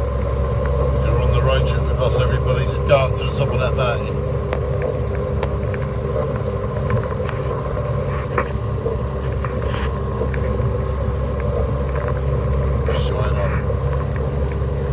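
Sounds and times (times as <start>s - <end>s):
car engine and tyres on wet road: 0.0s - 14.9s
raindrops ticking on car: 0.0s - 14.9s.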